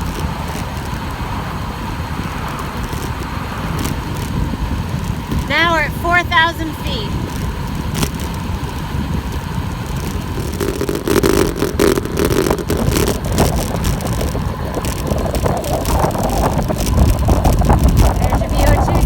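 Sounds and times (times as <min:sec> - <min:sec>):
low road rumble: 0:00.0 - 0:19.0
wind rushing over microphone: 0:00.0 - 0:19.0.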